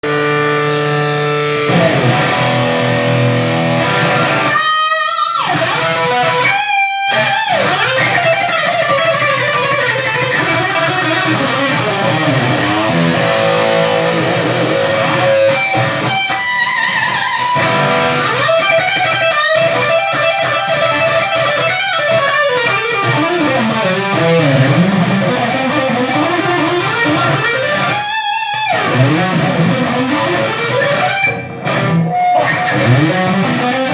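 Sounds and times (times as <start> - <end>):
electric guitar solo: 0.0 - 33.9.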